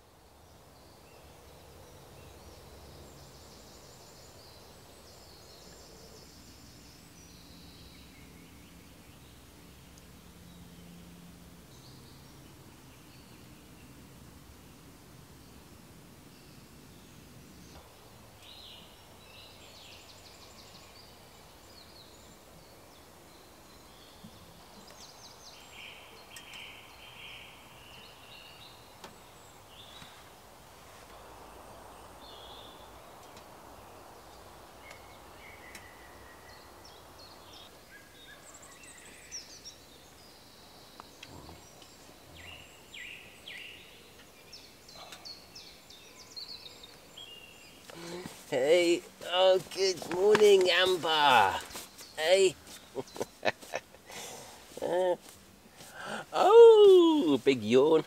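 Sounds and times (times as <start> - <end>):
birds chirping and trilling: 0.0 - 58.0
steady background hiss: 0.0 - 58.0.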